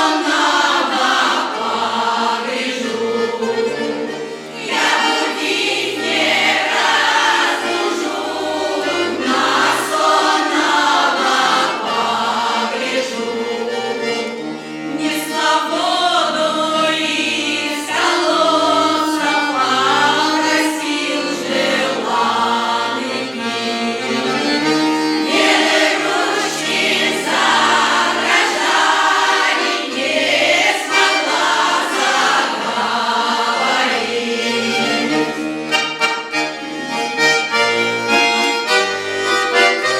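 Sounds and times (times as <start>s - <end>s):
folk choir singing: 0.0s - 39.9s
instrumental accompaniment: 0.0s - 39.9s.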